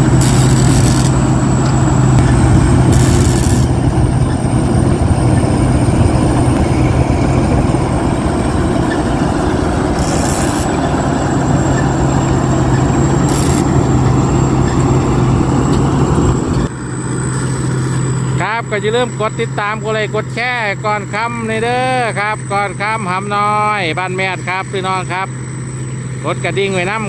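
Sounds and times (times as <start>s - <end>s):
combine harvester running: 0.0s - 27.0s.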